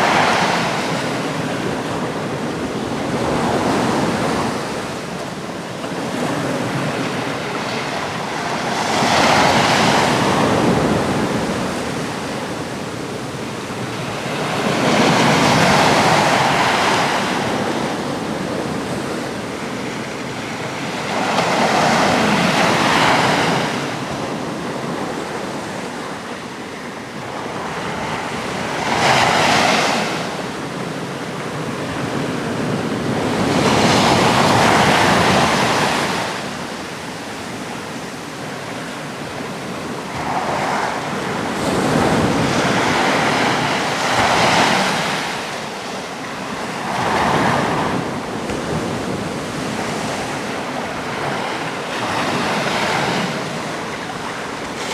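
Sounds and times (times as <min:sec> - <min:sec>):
sea waves breaking on shore: 0:00.0 - 0:54.9.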